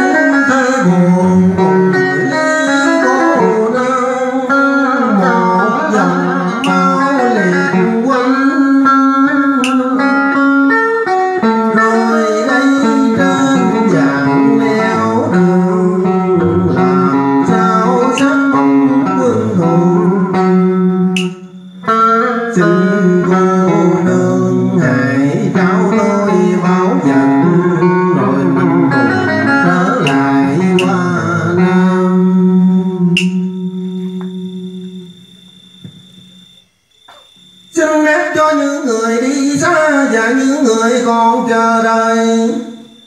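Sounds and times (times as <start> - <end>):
man singing: 0.0 - 33.2, 37.7 - 43.0
plucked electric guitar: 0.0 - 36.5.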